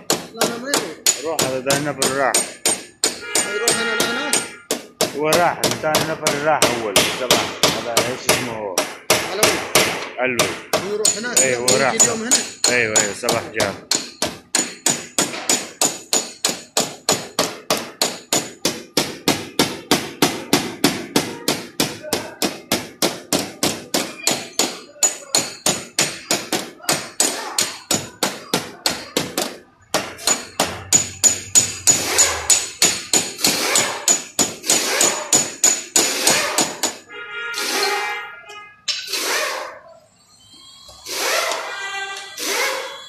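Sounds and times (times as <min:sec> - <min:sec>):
hammer tapping sheet metal: 0:00.0 - 0:37.9.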